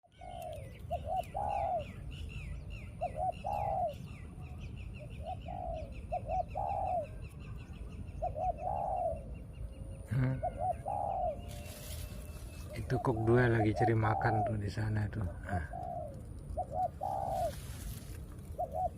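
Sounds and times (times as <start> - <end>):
dove cooing: 0.0 - 2.1, 2.9 - 7.3, 8.2 - 18.9.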